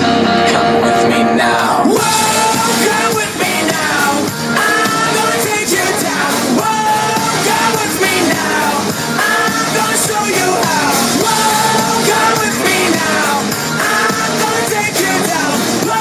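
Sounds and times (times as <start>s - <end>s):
rock song with vocals: 0.0s - 16.0s.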